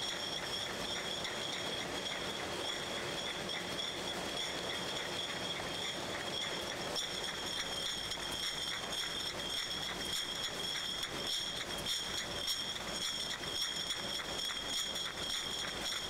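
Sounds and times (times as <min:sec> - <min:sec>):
high machine whine: 0:00.0 - 0:16.0.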